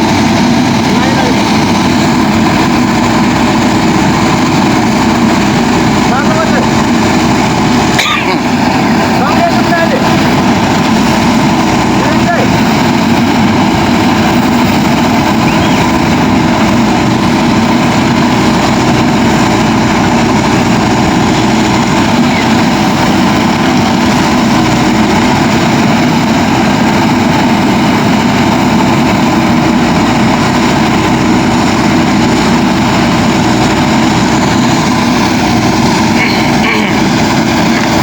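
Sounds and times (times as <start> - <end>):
diesel engine running loudly: 0.0 - 38.0.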